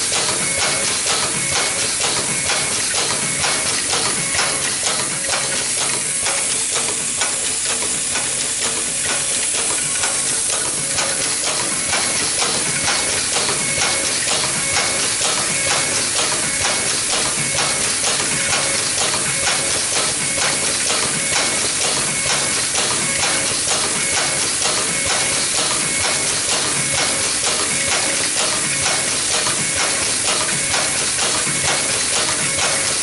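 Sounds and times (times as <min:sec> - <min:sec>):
fast mechanical clicking: 0:00.0 - 0:33.0
machine hiss: 0:00.0 - 0:33.0.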